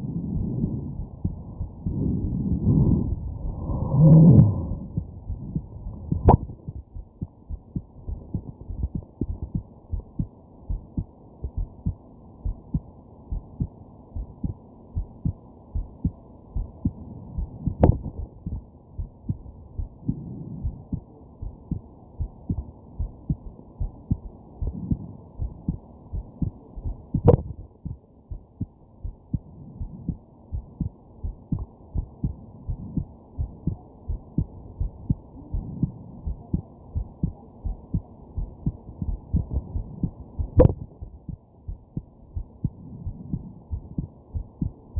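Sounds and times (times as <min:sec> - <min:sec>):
heartbeat thumps: 0:00.0 - 0:44.9.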